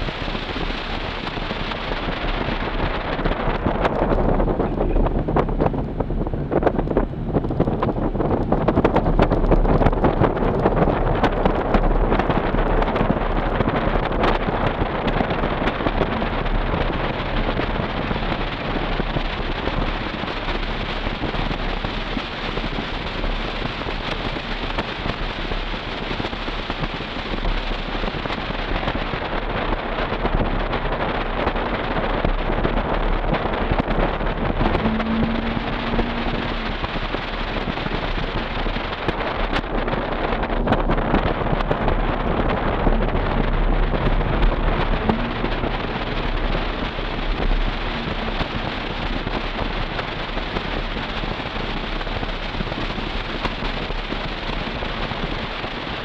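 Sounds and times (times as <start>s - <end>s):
engine and exhaust drone: 0.0s - 56.0s
wind noise on microphone: 0.0s - 56.0s.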